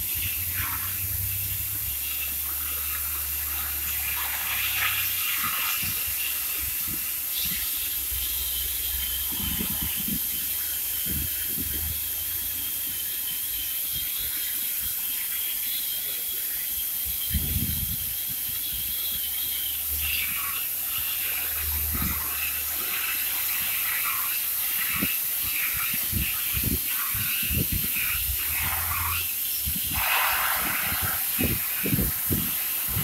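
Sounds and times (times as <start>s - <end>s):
steady hissing: 0.0s - 33.0s.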